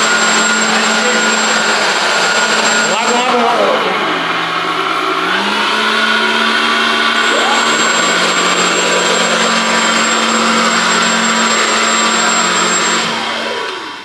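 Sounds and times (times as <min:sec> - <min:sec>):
electric motors and propellers whirring: 0:00.0 - 0:14.0.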